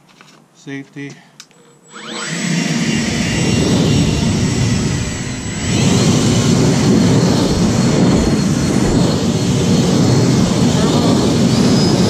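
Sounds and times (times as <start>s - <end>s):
leaf blower running: 1.9s - 12.0s.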